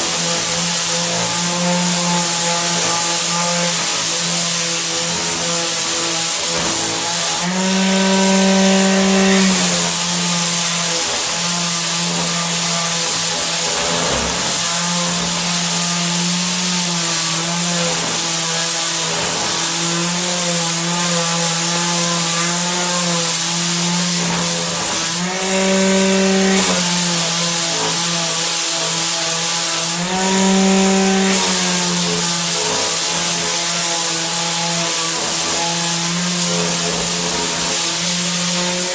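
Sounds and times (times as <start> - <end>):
electric sander motor hum: 0.0 - 16.5, 17.3 - 38.9
sanding hiss: 0.0 - 38.9.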